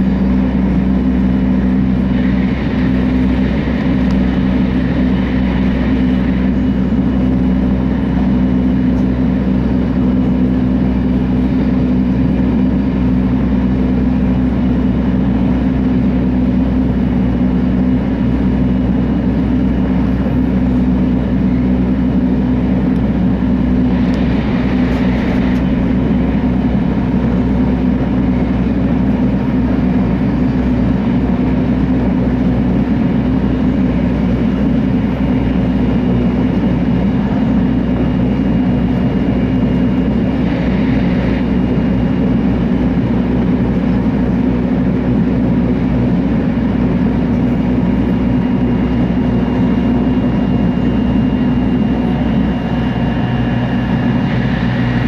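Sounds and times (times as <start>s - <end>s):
train cabin hum and rush: 0.0s - 55.0s.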